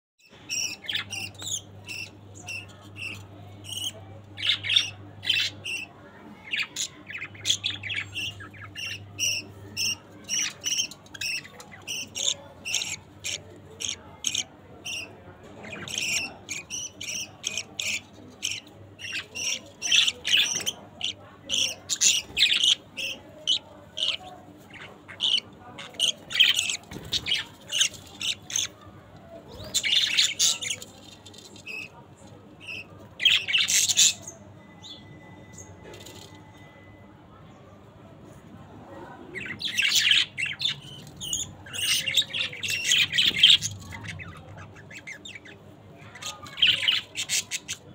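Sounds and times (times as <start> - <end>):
budgerigars chirping and squawking: 0.2 - 32.0, 32.6 - 34.4, 39.3 - 47.9.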